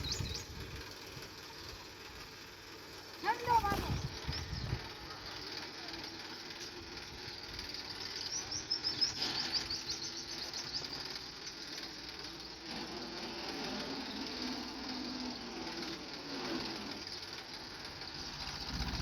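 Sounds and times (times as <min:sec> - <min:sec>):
bird singing a rapid trill: 0:00.0 - 0:01.1, 0:03.2 - 0:12.8, 0:13.4 - 0:16.2, 0:16.8 - 0:19.0
low hum: 0:03.6 - 0:19.0.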